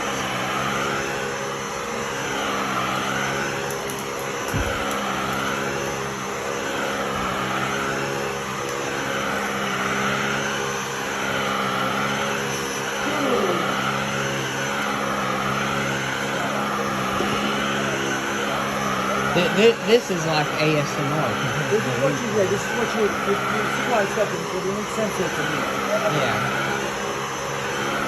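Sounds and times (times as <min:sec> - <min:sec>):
stick vacuum running: 0:00.0 - 0:28.0.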